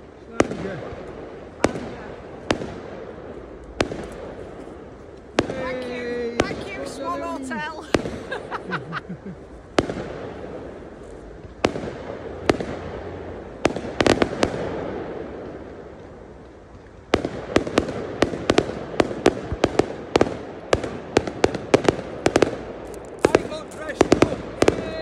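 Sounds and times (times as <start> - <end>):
fireworks bangs with echo: 0.0 - 25.0
rapid string of firework cracks: 0.0 - 25.0.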